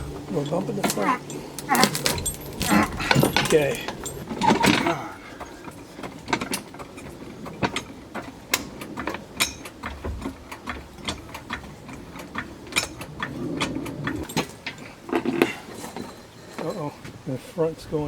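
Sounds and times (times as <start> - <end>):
engine hoist chain clicking: 0.0 - 17.3.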